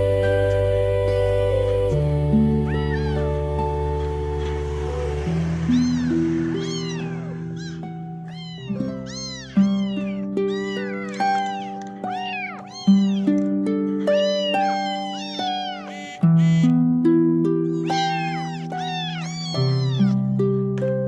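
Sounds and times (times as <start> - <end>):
soft music of held chords: 0.0 - 21.0
kittens meowing: 2.6 - 16.9, 17.6 - 20.4.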